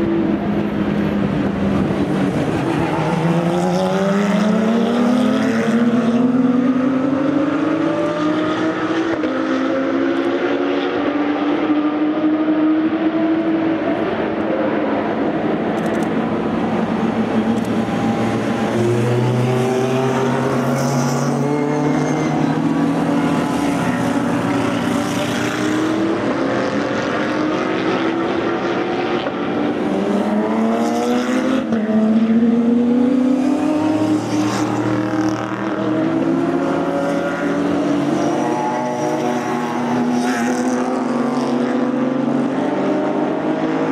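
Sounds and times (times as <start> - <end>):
race car engines at full throttle: 0.0 - 43.9.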